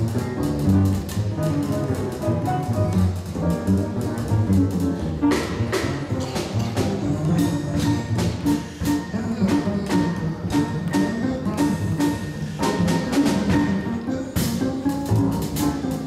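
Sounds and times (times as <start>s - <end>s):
drum kit playing: 0.0s - 16.0s
plucked double bass: 0.0s - 16.0s.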